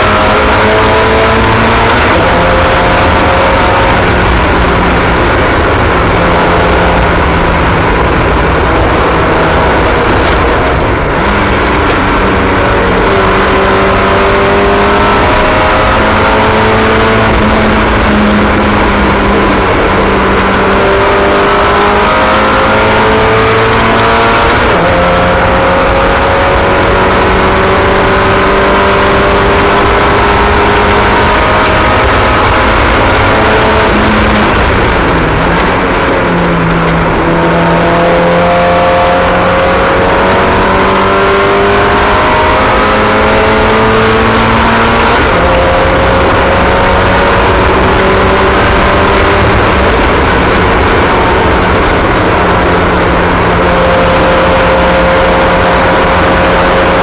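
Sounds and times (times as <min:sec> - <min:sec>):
racing car engines: 0:00.0 - 0:57.0.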